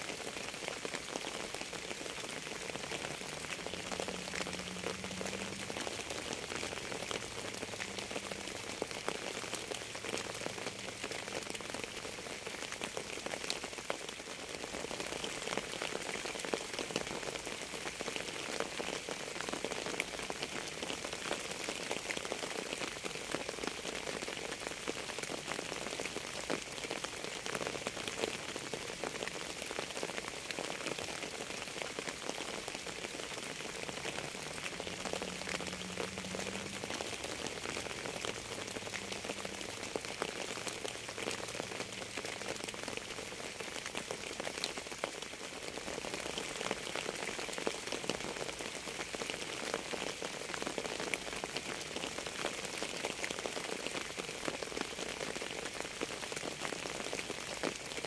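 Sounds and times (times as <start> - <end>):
raindrops ticking: 0.0 - 58.0
steady rain hiss: 0.0 - 58.0.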